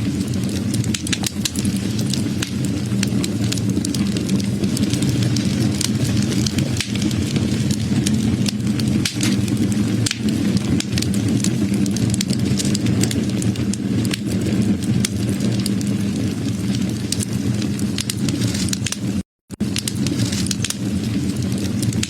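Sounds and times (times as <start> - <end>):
burning flames rushing: 0.0 - 22.0
wood fire crackling: 0.0 - 22.0.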